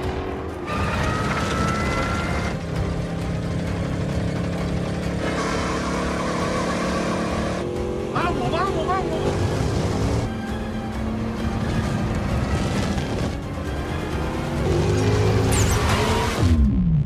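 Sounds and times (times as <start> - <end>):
racing car engines running hard: 0.0 - 16.6.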